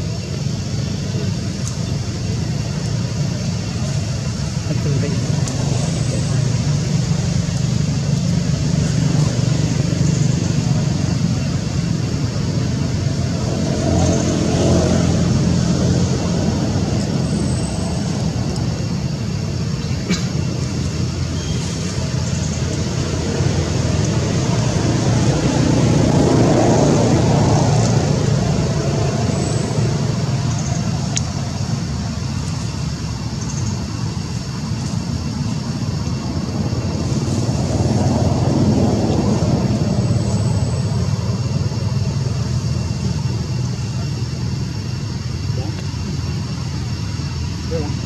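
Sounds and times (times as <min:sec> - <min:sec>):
road traffic rumble: 0:00.0 - 0:48.0
vehicles passing: 0:00.0 - 0:48.0.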